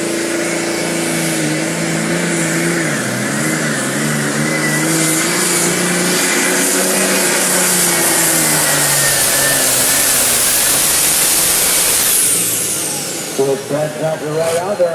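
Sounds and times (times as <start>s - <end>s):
tractor engine running flat out: 0.0s - 14.9s.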